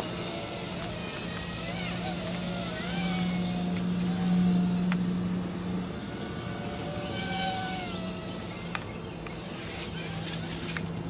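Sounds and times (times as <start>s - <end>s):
crickets chirping: 0.0s - 11.0s
quadcopter motors whining: 0.0s - 11.0s.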